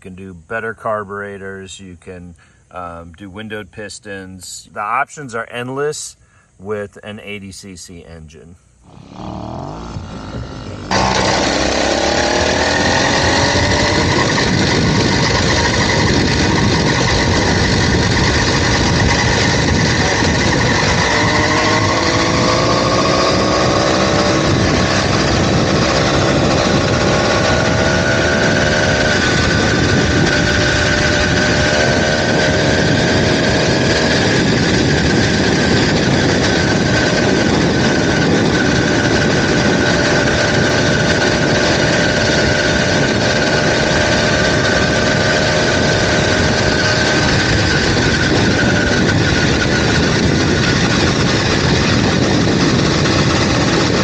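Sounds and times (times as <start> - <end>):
small two-stroke engine running: 8.8 - 54.0.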